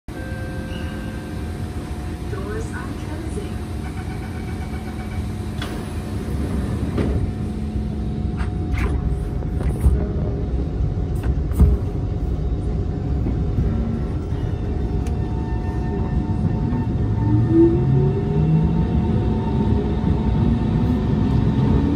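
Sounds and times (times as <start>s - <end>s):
train rumble: 0.1s - 21.9s.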